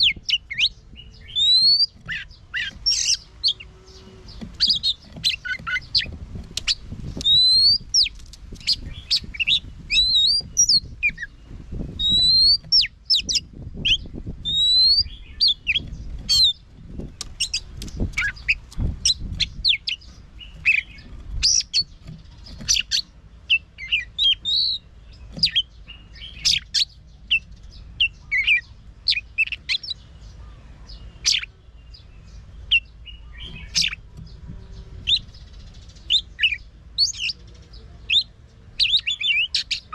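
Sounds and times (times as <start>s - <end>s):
bird singing whistles and chirps: 0.0s - 16.6s, 17.3s - 39.9s.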